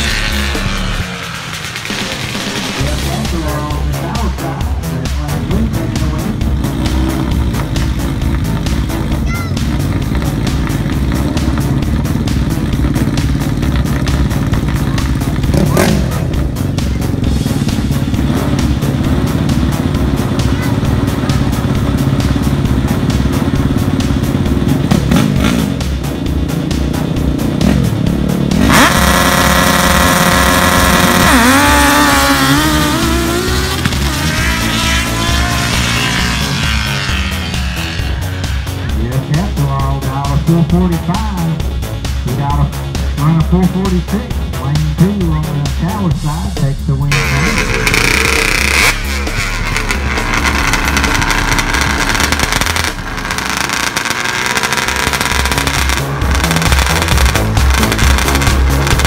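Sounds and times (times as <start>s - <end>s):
racing engines revving and wailing: 0.0s - 59.0s.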